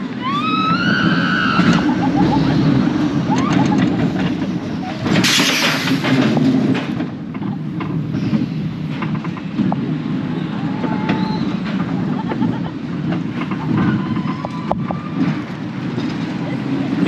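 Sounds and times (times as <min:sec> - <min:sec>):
coaster wheels rumbling on rails: 0:00.0 - 0:17.0.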